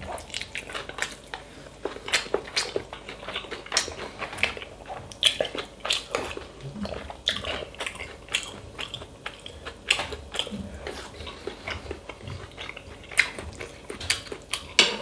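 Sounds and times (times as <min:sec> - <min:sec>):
person chewing and biting: 0:00.0 - 0:15.0.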